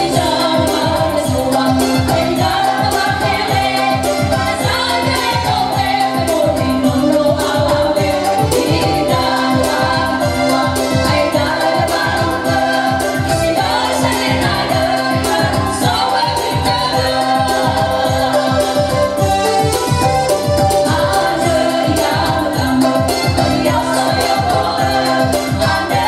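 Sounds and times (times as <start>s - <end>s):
electronic keyboard with steady beat: 0.0s - 26.0s
women singing through loudspeaker: 0.0s - 26.0s.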